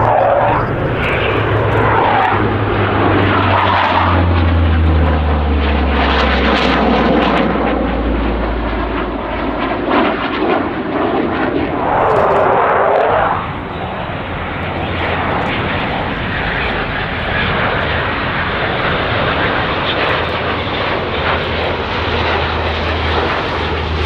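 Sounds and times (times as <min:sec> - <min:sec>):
broad roar: 0:00.0 - 0:07.6, 0:11.6 - 0:24.0
turboprop aircraft drone: 0:00.0 - 0:24.0.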